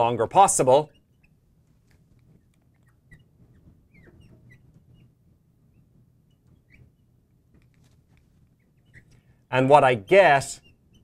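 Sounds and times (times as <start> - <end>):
marker squeaking on glass: 0.0 - 9.4, 10.1 - 11.0.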